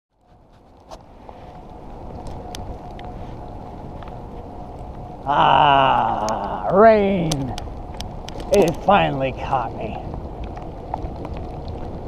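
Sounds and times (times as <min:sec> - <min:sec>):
low rumbling outdoor noise: 0:00.1 - 0:12.0
faint constant hum: 0:00.2 - 0:12.0.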